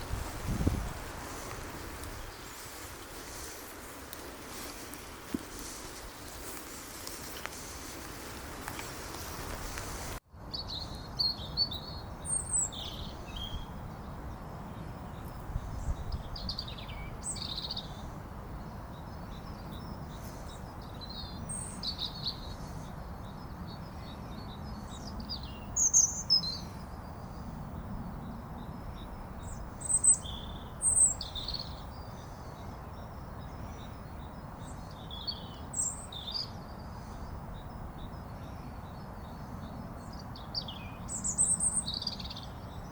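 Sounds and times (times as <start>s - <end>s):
wild birds chirping: 0.0s - 42.9s.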